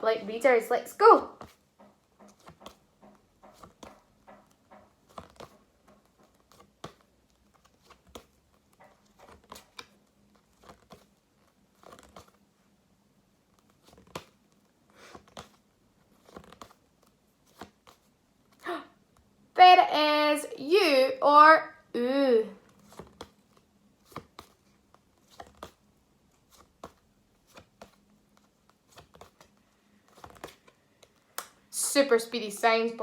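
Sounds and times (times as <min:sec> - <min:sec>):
flashcards rustling and tapping: 0:01.2 - 0:12.5, 0:13.3 - 0:19.4, 0:22.6 - 0:33.0.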